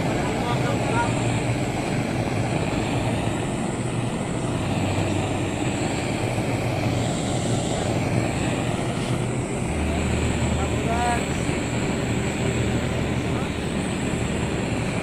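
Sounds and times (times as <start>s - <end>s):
blowtorch flame rushing: 0.0s - 15.0s.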